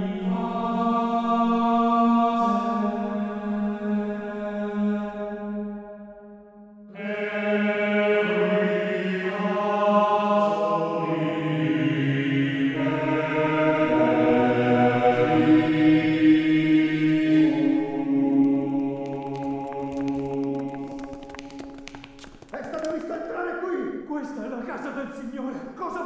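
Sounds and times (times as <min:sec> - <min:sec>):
choral chant music: 0:00.0 - 0:22.2.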